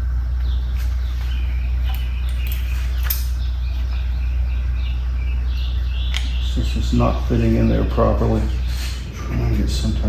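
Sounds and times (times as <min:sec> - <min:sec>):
birds chirping: 0:00.0 - 0:10.0
steady low hum: 0:00.0 - 0:10.0.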